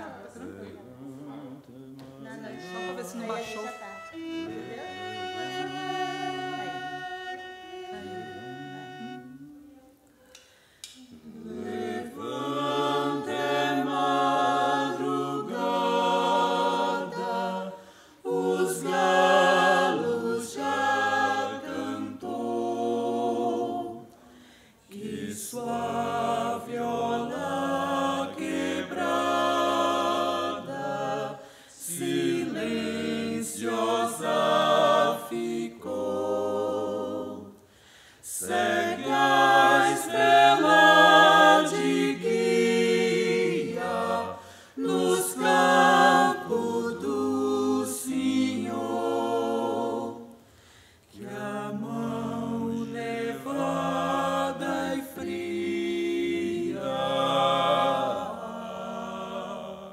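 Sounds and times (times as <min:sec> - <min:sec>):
vocal ensemble singing in harmony: 0:00.0 - 0:59.9.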